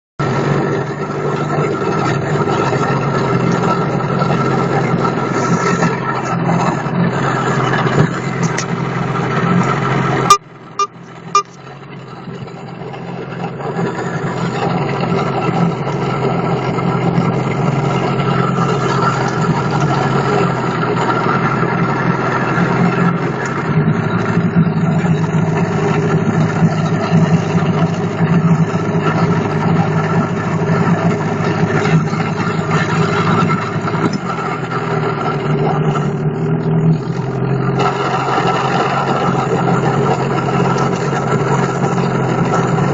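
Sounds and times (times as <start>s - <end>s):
vehicle engine knocking: 0.2s - 42.9s.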